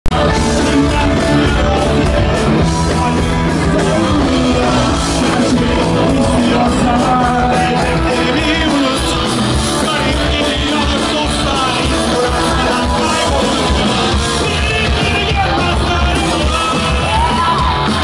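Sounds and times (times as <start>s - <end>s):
punk rock music with singing: 0.0s - 18.0s.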